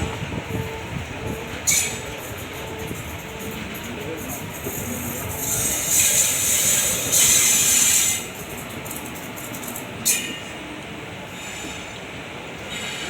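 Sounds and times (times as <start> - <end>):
train coach rumbling on track: 0.0 - 13.0.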